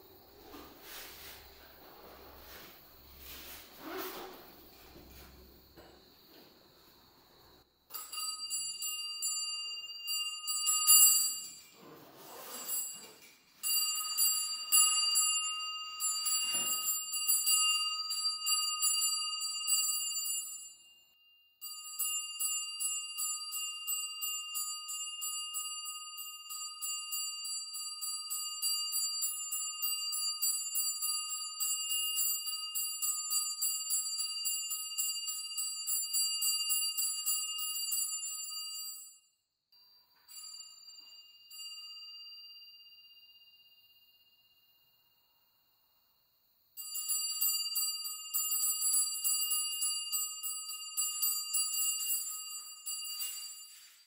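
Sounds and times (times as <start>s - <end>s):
small metal bell ringing: 7.9s - 46.0s, 46.8s - 54.0s.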